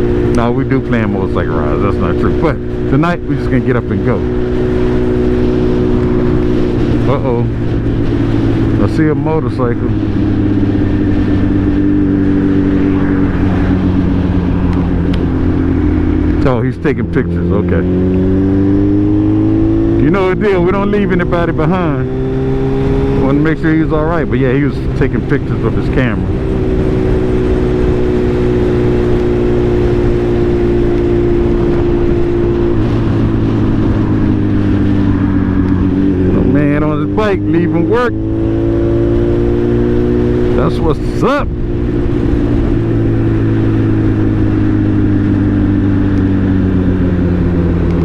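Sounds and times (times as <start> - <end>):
motorcycle engine cruising: 0.0 - 48.0
wind and road noise: 0.0 - 48.0.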